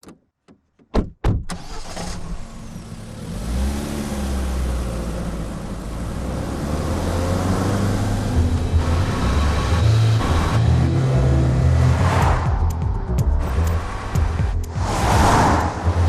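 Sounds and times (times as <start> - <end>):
car engine revving: 1.6 - 16.0.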